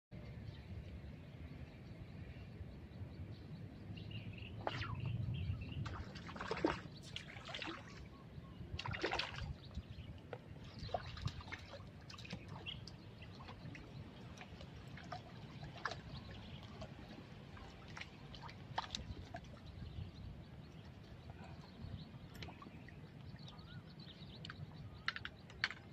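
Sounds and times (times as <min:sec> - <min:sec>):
water trickling and sloshing: 0:04.5 - 0:25.9.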